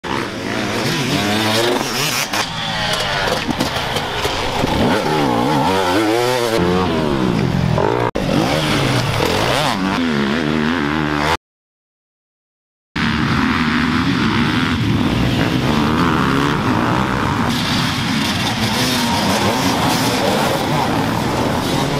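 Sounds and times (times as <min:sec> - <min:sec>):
dirt bike engines revving: 0:00.0 - 0:11.4, 0:13.0 - 0:21.9.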